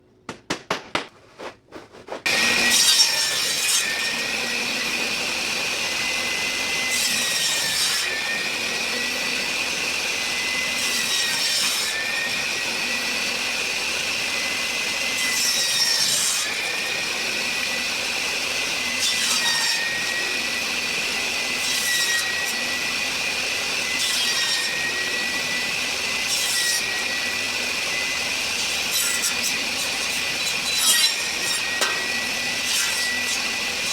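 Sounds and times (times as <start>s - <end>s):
saw blade cutting wood: 1.4s - 14.4s, 18.8s - 33.9s
power saw whining: 2.3s - 33.9s.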